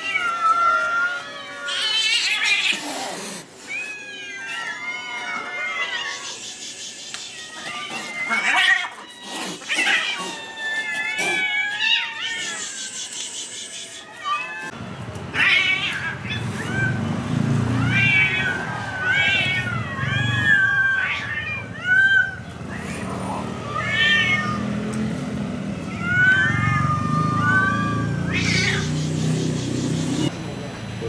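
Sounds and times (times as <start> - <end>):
cats meowing and yowling: 0.0 - 17.2, 17.8 - 24.8, 25.7 - 29.2.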